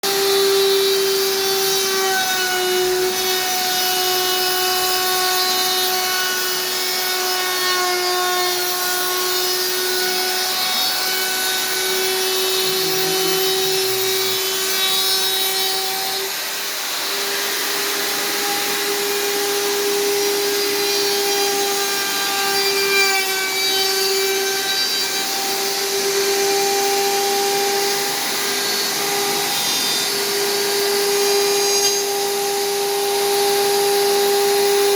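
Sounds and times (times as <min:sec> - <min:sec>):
power tool motor whining on wood: 0:00.0 - 0:34.9.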